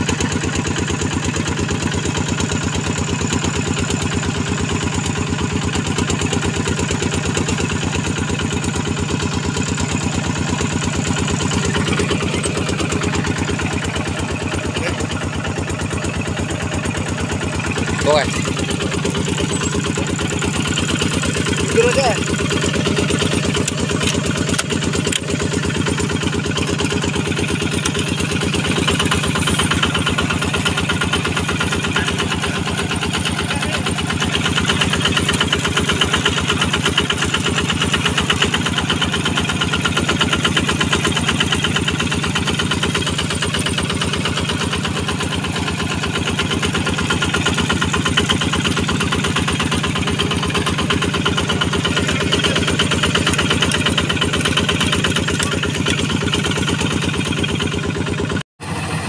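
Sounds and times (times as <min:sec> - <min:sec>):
combine harvester engine running: 0:00.0 - 0:59.0.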